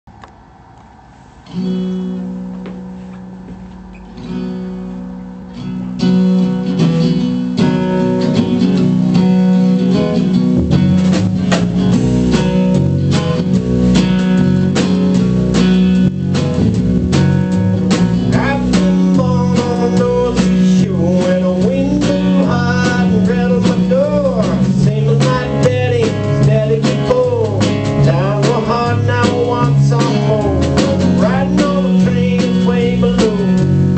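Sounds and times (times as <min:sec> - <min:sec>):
held guitar chords ringing: 0:01.3 - 0:33.9
full band with steady beat: 0:01.5 - 0:33.9
lead guitar melody: 0:01.5 - 0:33.9.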